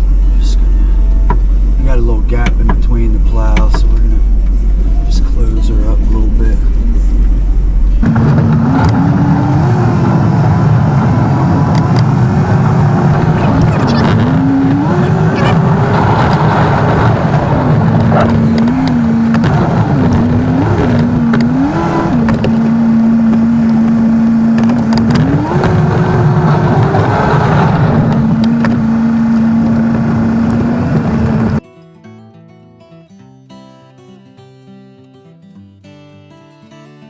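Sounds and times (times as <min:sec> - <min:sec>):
truck engine revving: 0:00.0 - 0:31.6.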